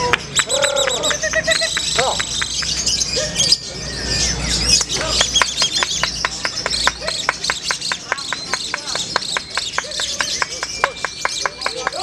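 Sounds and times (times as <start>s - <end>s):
bird chattering chirps and trills: 0.0s - 12.0s.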